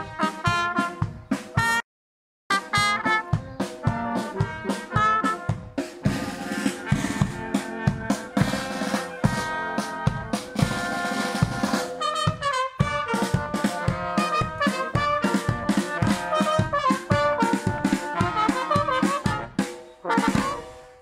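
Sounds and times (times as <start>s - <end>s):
steady drum beat: 0.0s - 1.8s, 2.5s - 21.0s
wind band playing upbeat tune: 0.0s - 1.8s, 2.5s - 21.0s.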